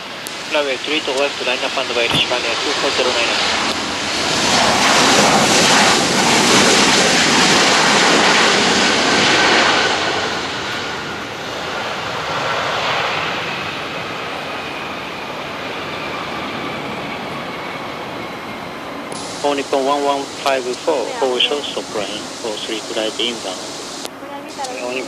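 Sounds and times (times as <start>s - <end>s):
jet engines passing: 0.0s - 25.0s.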